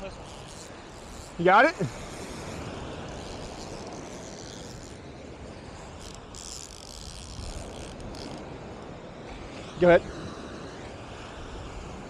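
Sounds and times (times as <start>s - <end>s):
breaking surf: 0.0s - 12.0s
wind rumbling on microphone: 0.0s - 12.0s.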